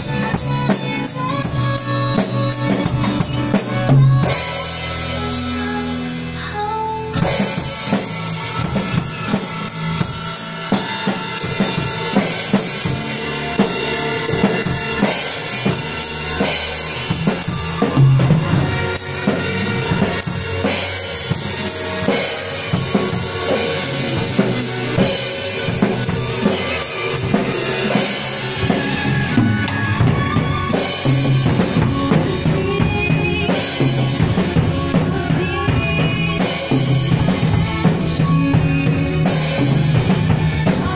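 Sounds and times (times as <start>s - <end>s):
acoustic drum kit playing: 0.0s - 40.9s
pitched accompanying music: 0.0s - 40.9s.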